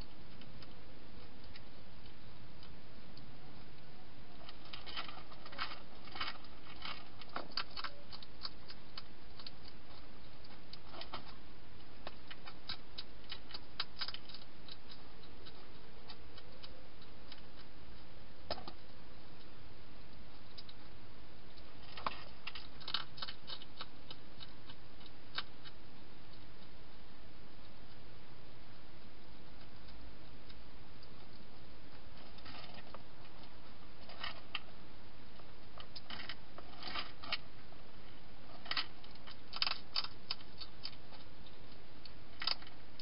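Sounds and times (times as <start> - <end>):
hedgehog crunching dry food: 0.0 - 26.8, 29.2 - 43.0.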